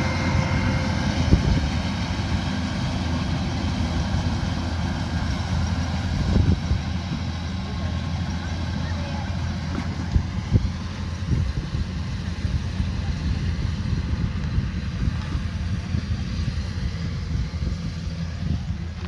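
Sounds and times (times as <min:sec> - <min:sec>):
combine harvester engine rumbling: 0:00.0 - 0:19.0.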